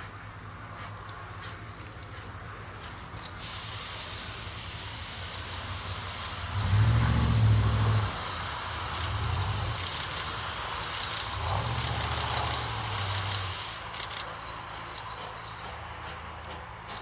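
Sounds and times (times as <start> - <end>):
steam locomotive rumble: 0.0 - 17.0
short hissing beats: 3.0 - 17.0.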